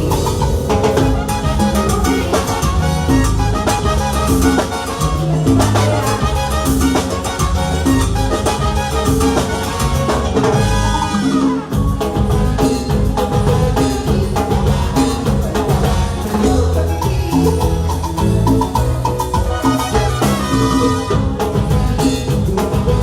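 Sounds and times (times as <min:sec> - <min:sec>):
live band playing dance music: 0:00.0 - 0:23.0.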